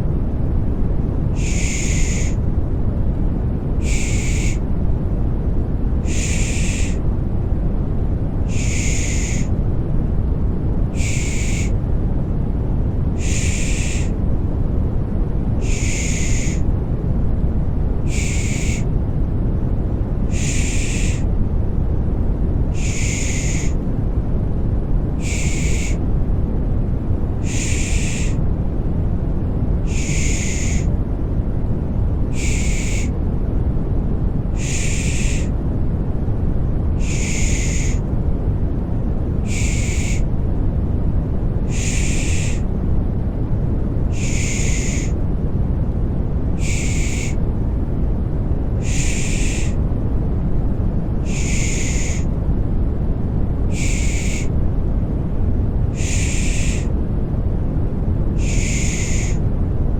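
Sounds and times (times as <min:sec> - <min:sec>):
low rumbling white noise: 0:00.0 - 0:59.9.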